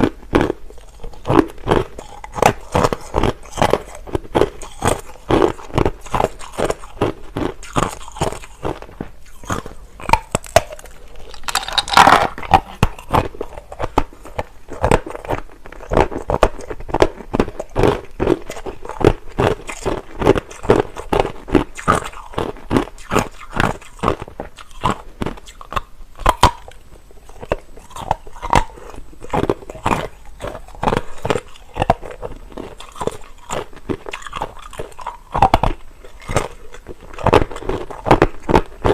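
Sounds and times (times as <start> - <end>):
ice being crunched by chewing: 0.0 - 26.8, 27.4 - 38.9.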